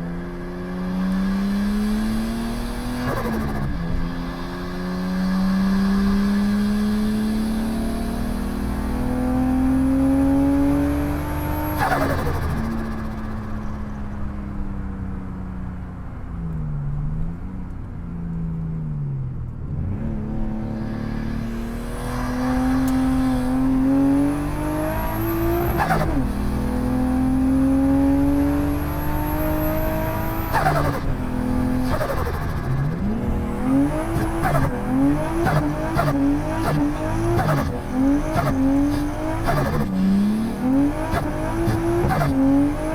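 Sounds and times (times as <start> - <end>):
car engine revving through gears: 0.0 - 13.8, 19.6 - 42.9.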